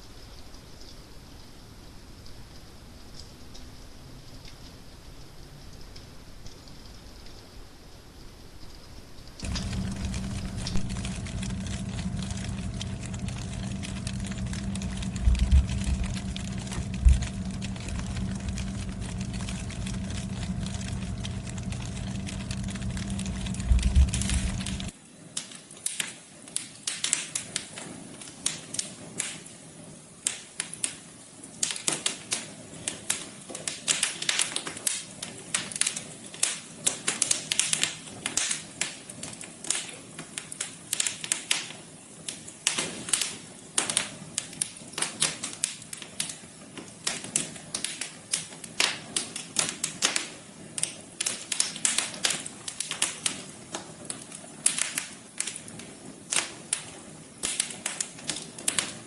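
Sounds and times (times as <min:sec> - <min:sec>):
low steady hiss: 0:00.0 - 0:59.0
wood fire crackling: 0:09.1 - 0:59.0.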